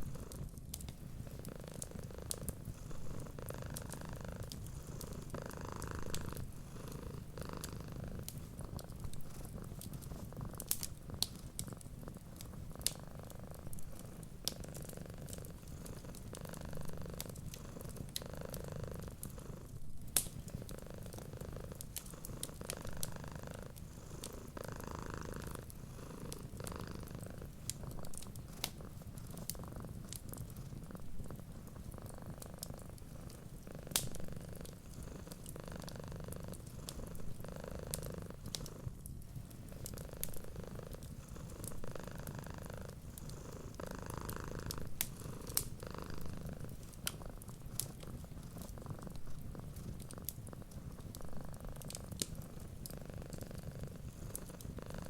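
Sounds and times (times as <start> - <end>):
wood fire crackling: 0.0 - 6.5, 7.1 - 18.2, 19.0 - 55.0
cat purring: 0.0 - 55.0.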